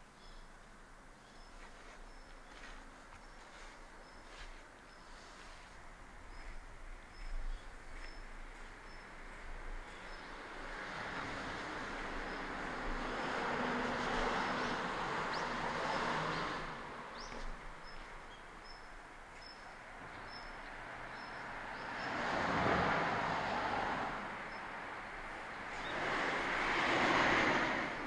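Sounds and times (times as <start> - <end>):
vehicles passing: 1.8 - 28.0.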